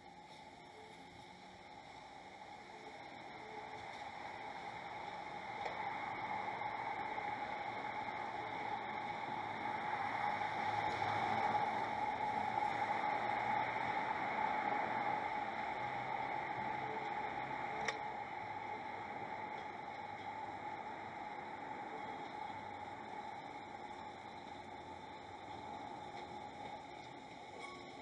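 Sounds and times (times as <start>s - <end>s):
hum: 0.0s - 28.0s
outdoor ambient hiss: 0.0s - 28.0s.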